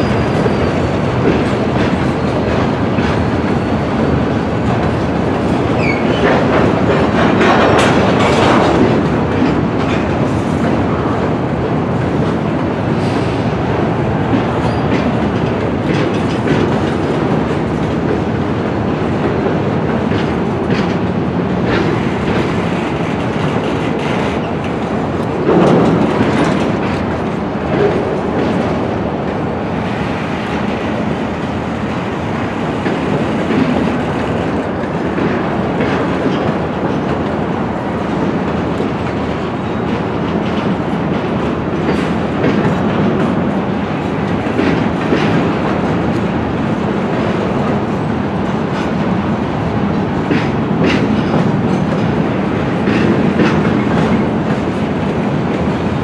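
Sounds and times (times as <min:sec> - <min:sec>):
freight car wheels rumbling: 0:00.0 - 0:56.0
wheels clacking over rail joints: 0:00.0 - 0:56.0.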